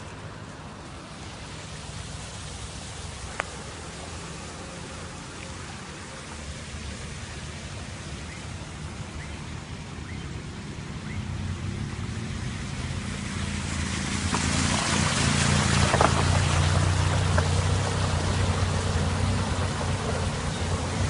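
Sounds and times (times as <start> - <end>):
tyres splashing through water: 0.0 - 21.0.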